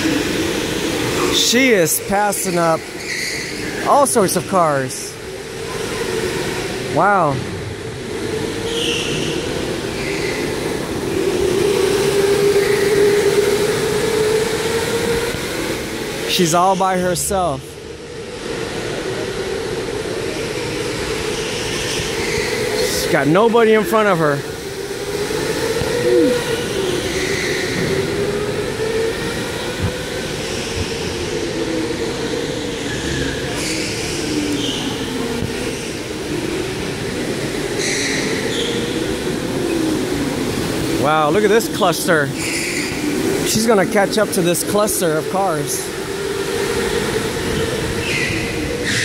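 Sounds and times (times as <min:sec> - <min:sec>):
echoing hall hum: 0:00.0 - 0:49.0
electric go-kart motors whining: 0:00.0 - 0:49.0.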